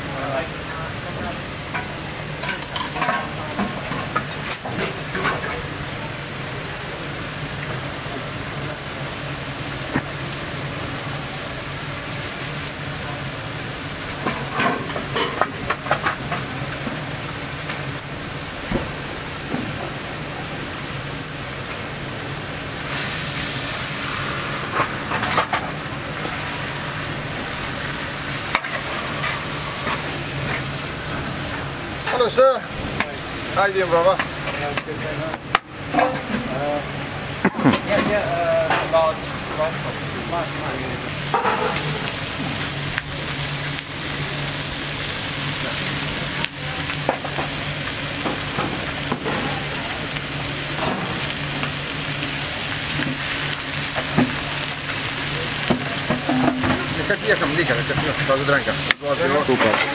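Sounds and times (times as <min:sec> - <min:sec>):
food sizzling: 0:00.0 - 0:59.9.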